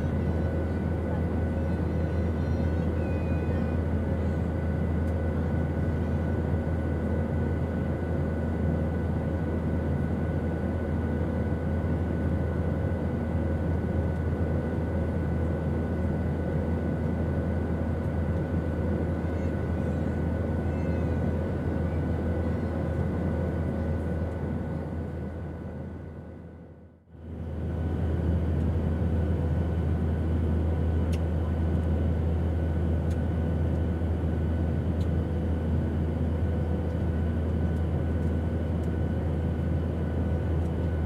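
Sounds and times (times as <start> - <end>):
airplane engines droning: 0.0 - 41.0.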